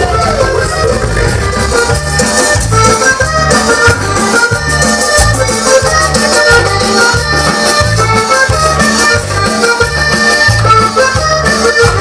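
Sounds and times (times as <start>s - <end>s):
cumbia music with accordion and bass: 0.0s - 12.0s.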